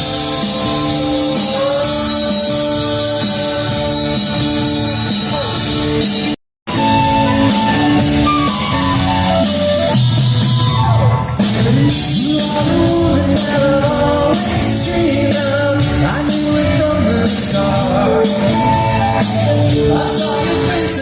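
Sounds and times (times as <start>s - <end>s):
soft rock band playing: 0.0s - 21.0s.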